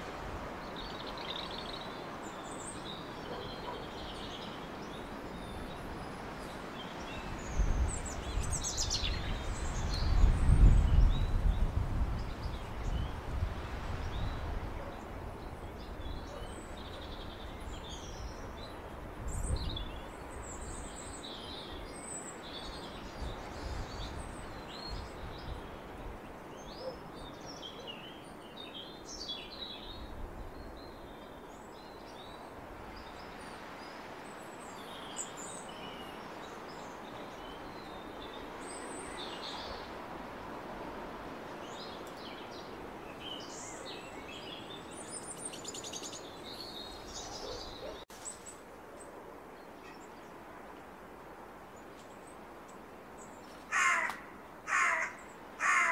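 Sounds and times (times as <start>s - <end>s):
background hiss: 0.0s - 55.9s
songbird singing: 0.0s - 55.9s.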